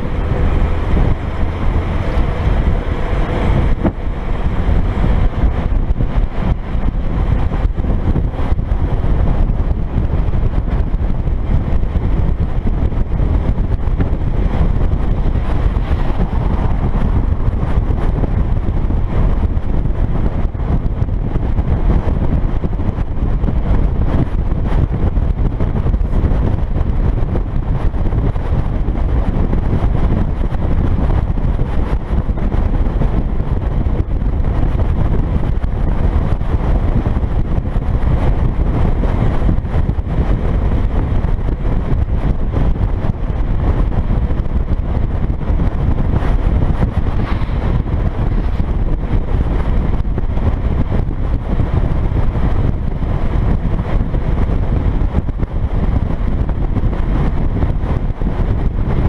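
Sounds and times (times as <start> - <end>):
truck driving rumble: 0.0 - 59.0
wind buffeting microphone: 0.0 - 59.0.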